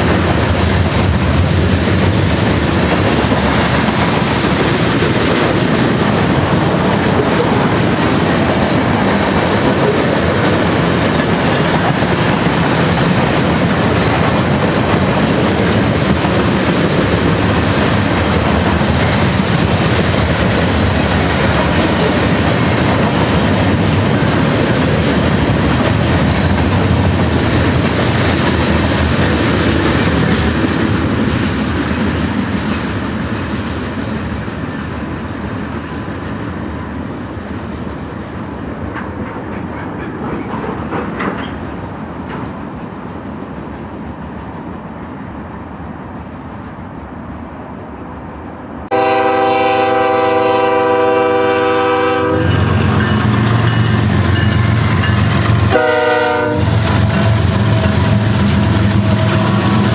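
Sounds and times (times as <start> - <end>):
freight train wheels clattering: 0.0 - 44.7, 48.9 - 59.9.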